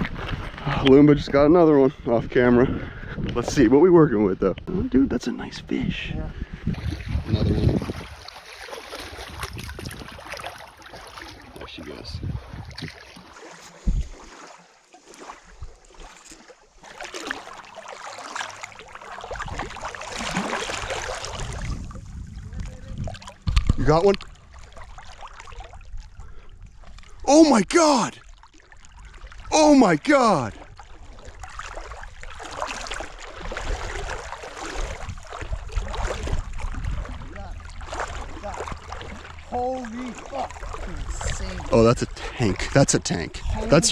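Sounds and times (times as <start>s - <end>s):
water splashing and lapping: 0.0s - 3.7s, 6.2s - 43.9s
wind rumbling on microphone: 0.0s - 13.2s, 13.8s - 14.3s, 19.1s - 27.2s, 30.5s - 43.9s.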